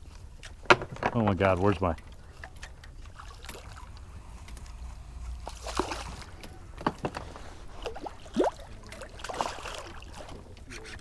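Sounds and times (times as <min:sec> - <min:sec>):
handling noises: 0:00.0 - 0:09.2
low steady rumble: 0:00.0 - 0:11.0.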